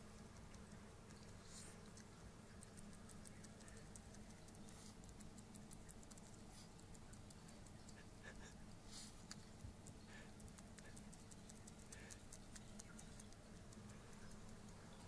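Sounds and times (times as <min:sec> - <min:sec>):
low steady hum: 0:00.0 - 0:15.0
dog breathing softly: 0:01.2 - 0:05.2, 0:06.2 - 0:15.0.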